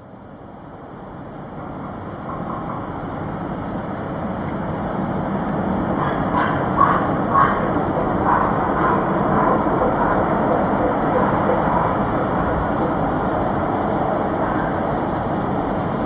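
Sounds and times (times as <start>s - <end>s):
rushing rumbling noise: 0.3s - 16.0s.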